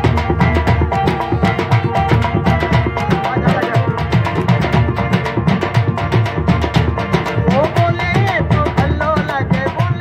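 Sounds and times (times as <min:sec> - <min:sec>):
harmonium holding notes: 0:00.0 - 0:09.0
frame drum beating: 0:00.0 - 0:10.0.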